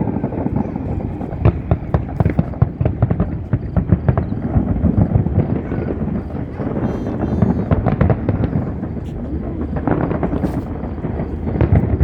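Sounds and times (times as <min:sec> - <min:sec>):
fireworks bursting with sharp cracks: 0:00.0 - 0:12.0.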